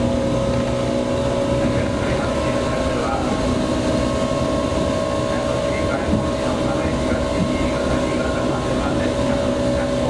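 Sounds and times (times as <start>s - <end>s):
wheels rumbling on rail: 0.0s - 10.0s.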